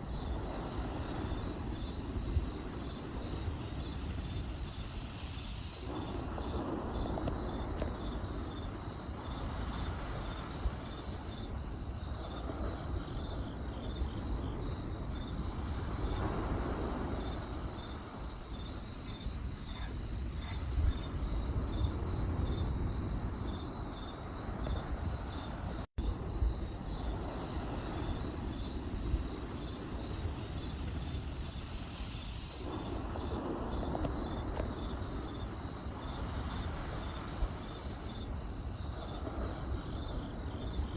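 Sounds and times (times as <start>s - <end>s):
campfire burning: 0.0s - 40.9s
crickets chirping: 0.0s - 40.9s
fire crackles and pops: 0.0s - 40.9s.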